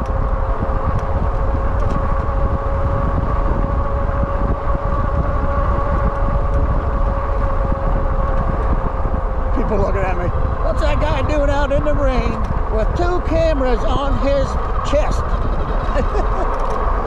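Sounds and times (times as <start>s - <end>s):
electric motor whining: 0.0s - 17.0s
wind buffeting microphone: 0.0s - 17.0s.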